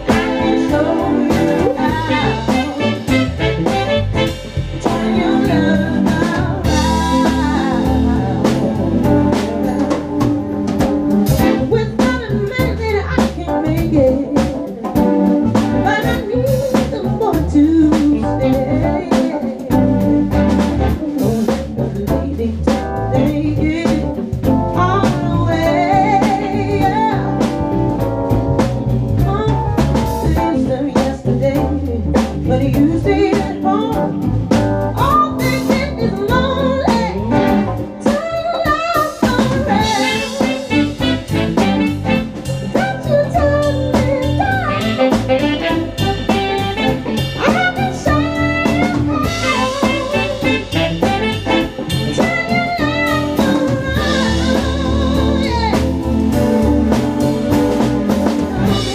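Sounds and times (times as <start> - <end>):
woman singing: 0.0 - 27.7, 29.1 - 56.7, 58.2 - 58.9
live band playing r and b: 0.0 - 58.9.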